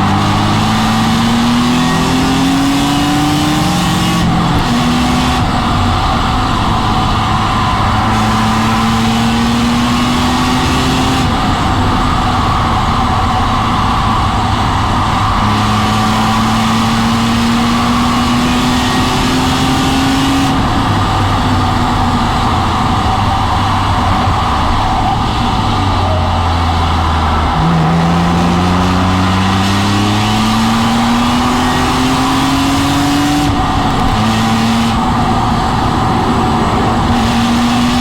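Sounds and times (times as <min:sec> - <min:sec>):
car engine revving in cabin: 0:00.0 - 0:38.0.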